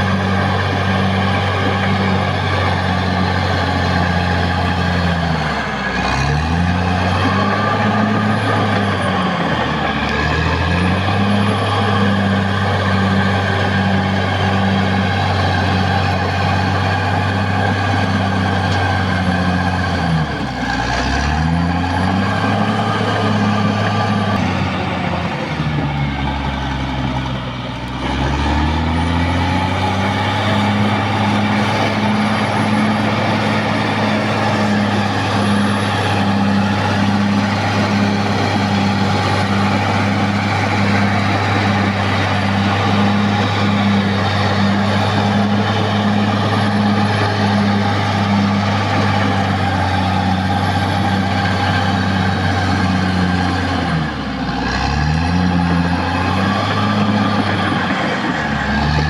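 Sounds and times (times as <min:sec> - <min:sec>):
bulldozer diesel engine running hard: 0:00.0 - 0:59.0.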